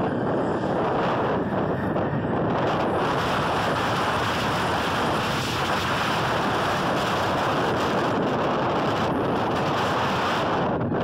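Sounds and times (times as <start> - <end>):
jet engines roaring: 0.0 - 11.0
wind buffeting microphone: 0.0 - 11.0.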